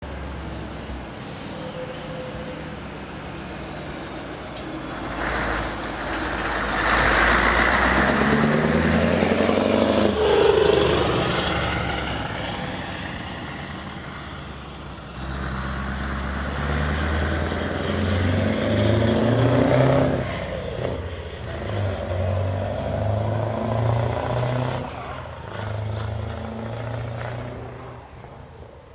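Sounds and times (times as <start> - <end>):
diesel truck accelerating: 0.0 - 28.9.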